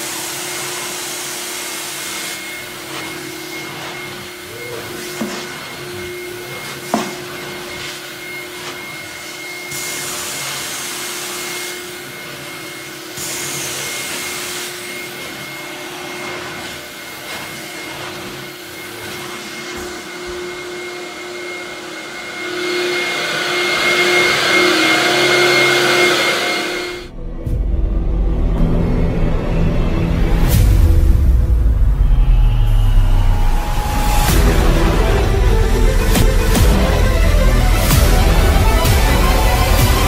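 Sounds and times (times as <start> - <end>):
vacuum motors whining: 0.0 - 27.1, 32.0 - 40.0.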